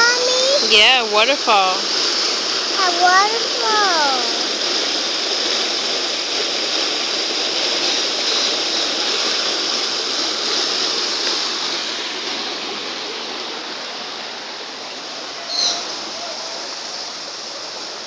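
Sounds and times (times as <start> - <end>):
waterfall splashing: 0.0 - 18.0.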